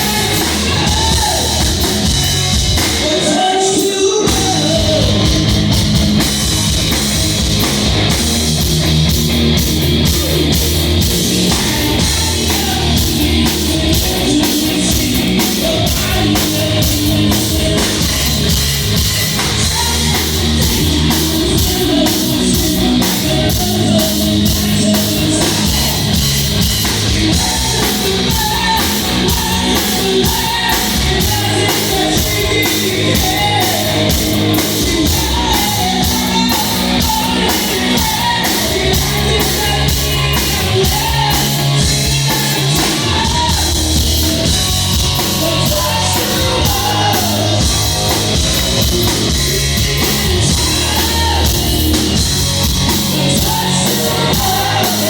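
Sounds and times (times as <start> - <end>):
person singing: 0.0 - 5.8, 9.8 - 55.0
drum kit: 0.0 - 55.0
electric guitar: 0.0 - 55.0.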